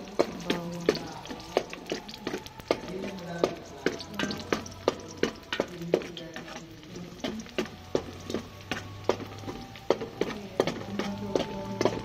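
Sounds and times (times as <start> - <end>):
metal ladle knocking on pot: 0.0 - 12.0.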